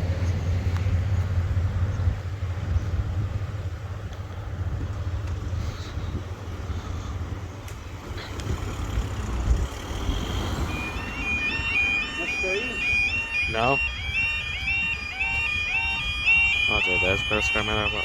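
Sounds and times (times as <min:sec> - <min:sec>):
vehicle rumbling past: 0:00.0 - 0:17.6.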